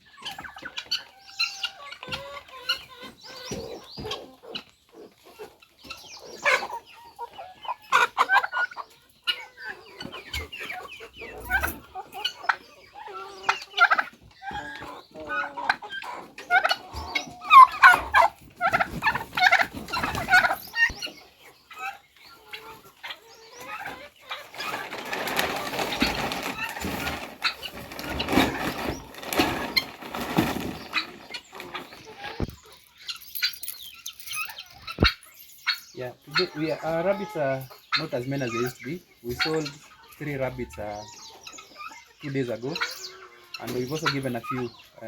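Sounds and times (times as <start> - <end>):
chickens and turkeys clucking: 0.0 - 45.0.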